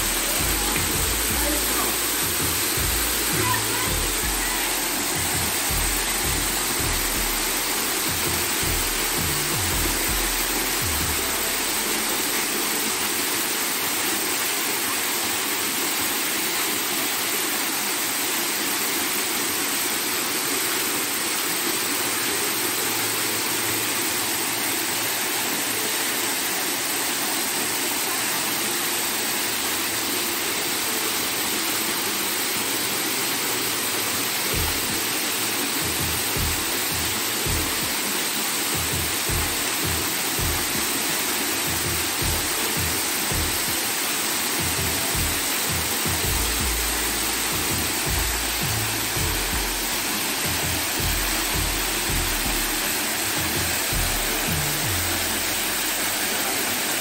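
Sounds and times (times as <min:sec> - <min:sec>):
waterfall rushing onto rocks: 0:00.0 - 0:57.0.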